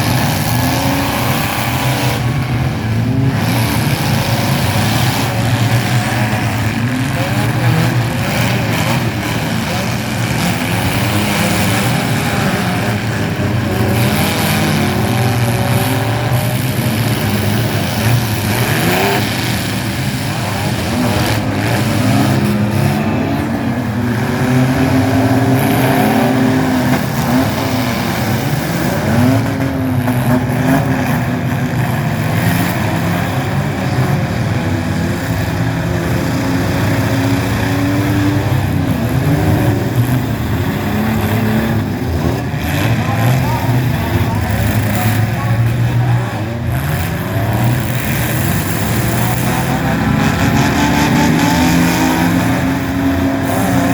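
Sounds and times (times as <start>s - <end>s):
small truck engines revving: 0.0s - 53.9s.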